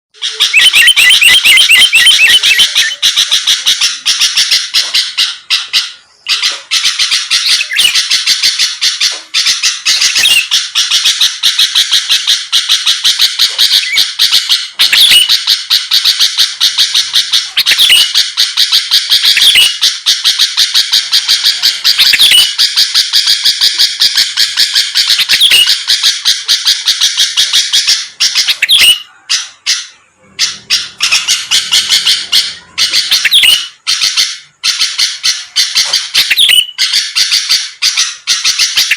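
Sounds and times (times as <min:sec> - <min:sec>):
bulbul chattering song: 0:00.1 - 0:38.9.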